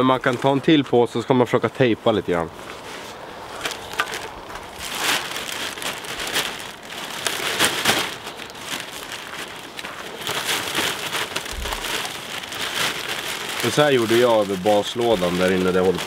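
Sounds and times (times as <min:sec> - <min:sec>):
plastic bag rustling: 0:02.4 - 0:16.0.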